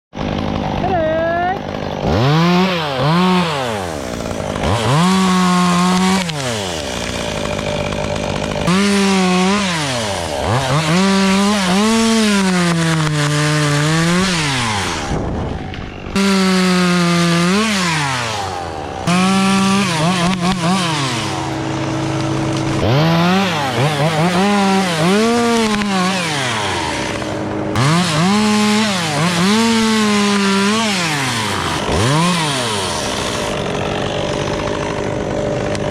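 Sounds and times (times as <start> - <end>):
chainsaw revving cutting wood: 0.2 - 35.9.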